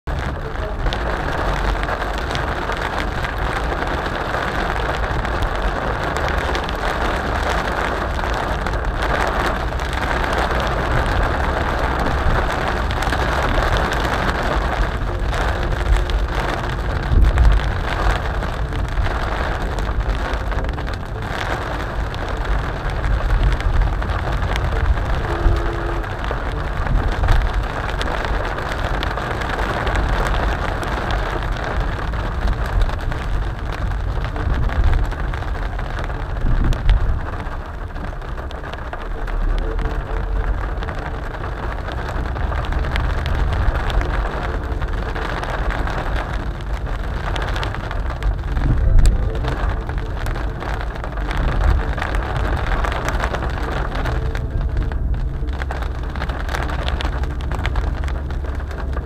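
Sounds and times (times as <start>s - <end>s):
rain pattering on car roof: 0.0s - 59.0s
tyres rumbling on wet road: 0.0s - 59.0s.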